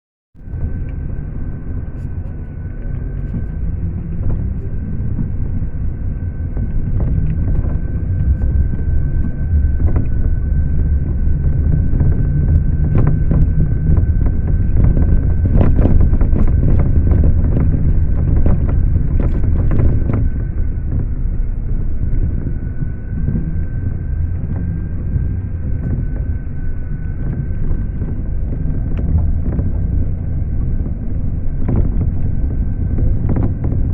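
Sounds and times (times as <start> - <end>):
high whine: 0.4 - 33.9
vehicle engine rumble: 0.4 - 33.9.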